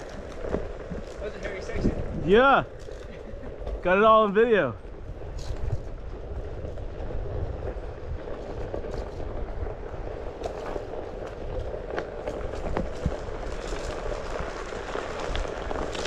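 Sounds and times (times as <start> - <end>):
wind on microphone: 0.0 - 3.9, 4.8 - 16.0
wheels rolling on dirt trail: 0.0 - 16.0.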